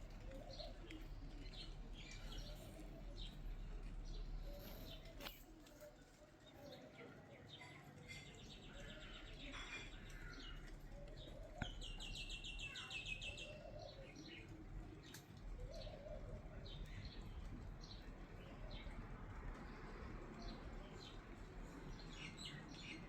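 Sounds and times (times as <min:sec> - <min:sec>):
songbirds trilling: 0:00.0 - 0:05.3, 0:06.4 - 0:23.0.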